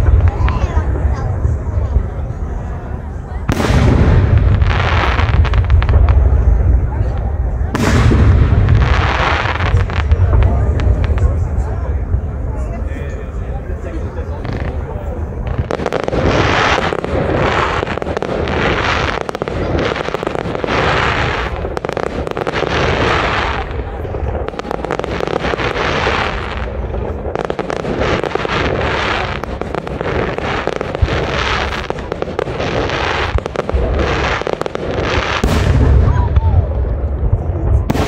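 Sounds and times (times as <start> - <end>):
fireworks bursting and crackling: 0.0 - 38.0
low fireworks booms: 0.0 - 38.0.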